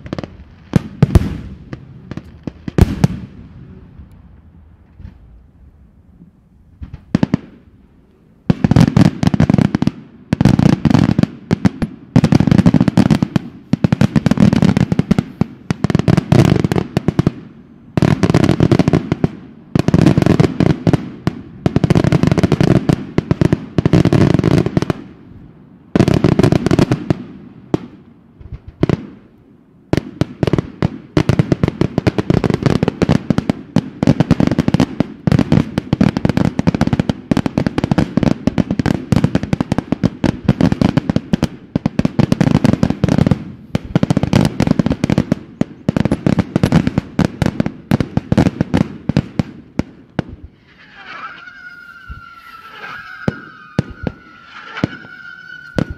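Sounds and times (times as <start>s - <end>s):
fireworks bangs and crackles: 0.0s - 5.5s, 6.2s - 55.9s.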